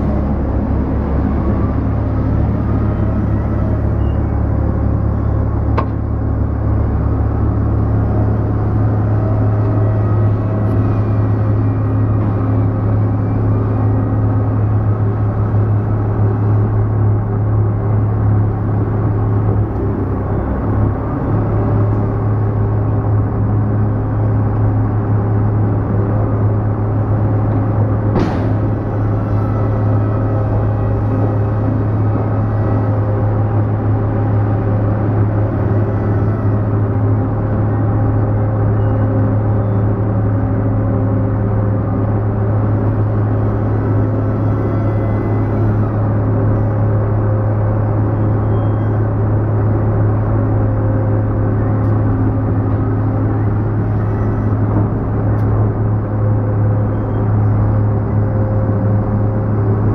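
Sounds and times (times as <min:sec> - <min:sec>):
heavy machinery rumble: 0:00.0 - 0:59.9.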